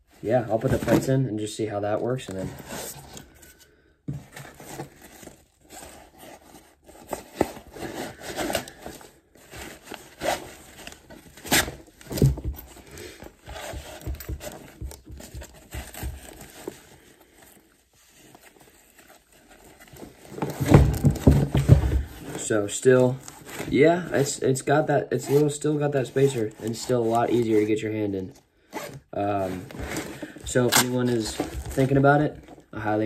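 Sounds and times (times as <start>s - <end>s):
nylon fabric rustling and scraping: 4.3s - 27.9s, 28.7s - 33.0s.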